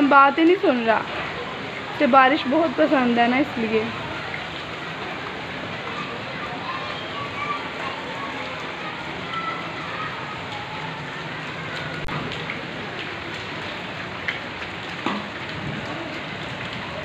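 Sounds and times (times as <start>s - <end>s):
heavy rain hissing: 0.6s - 17.0s.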